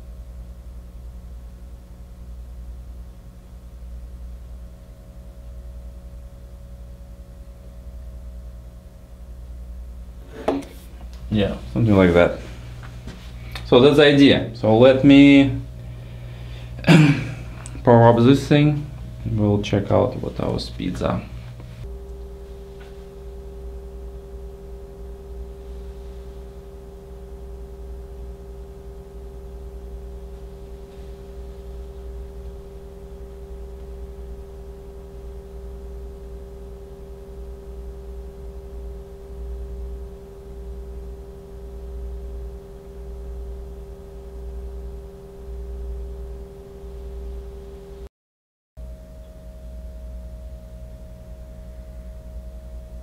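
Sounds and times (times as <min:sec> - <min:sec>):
cooling fan humming: 0:00.0 - 0:48.1, 0:48.8 - 0:53.0.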